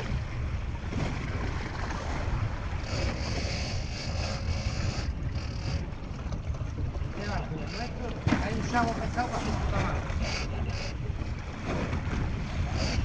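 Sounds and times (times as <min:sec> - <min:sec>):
boat engine rumble: 0:00.0 - 0:13.0
water: 0:00.0 - 0:13.0
wind on microphone: 0:00.0 - 0:13.0.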